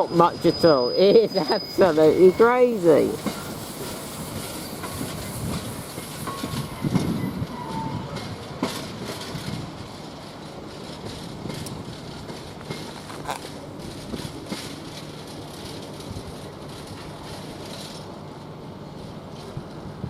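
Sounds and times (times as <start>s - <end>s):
freight train rumbling: 0.0s - 20.0s
wheels clacking over rail joints: 0.1s - 19.8s.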